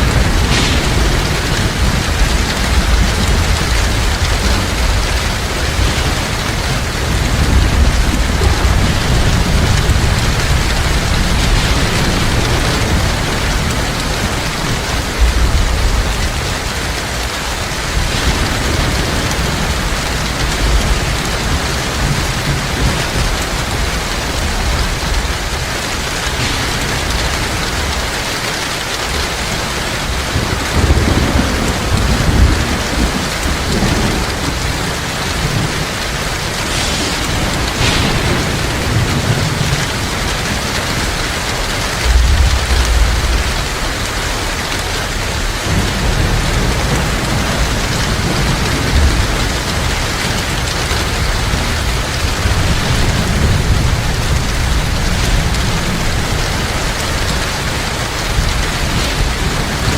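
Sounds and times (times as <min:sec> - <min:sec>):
heavy rain: 0:00.0 - 0:59.9
thunder rumbling: 0:00.0 - 0:59.9.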